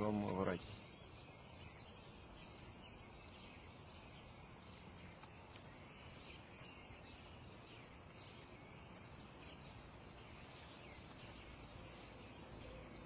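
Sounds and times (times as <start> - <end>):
faint bird chirps: 0.0 - 13.0
outdoor background hiss: 0.0 - 13.0.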